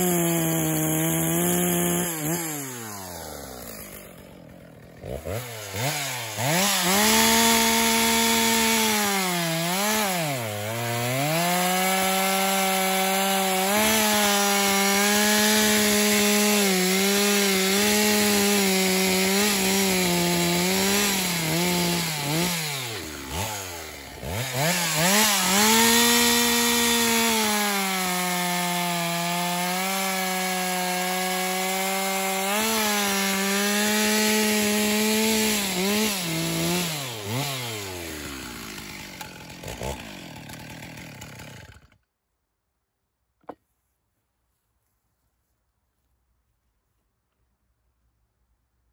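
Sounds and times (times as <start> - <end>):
chainsaw cutting log: 0.0 - 42.1.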